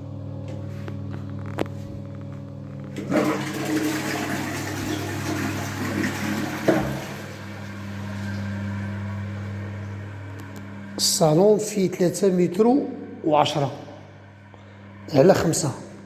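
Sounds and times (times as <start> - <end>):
low steady hum: 0.0 - 16.0
toilet flushing: 2.9 - 15.8.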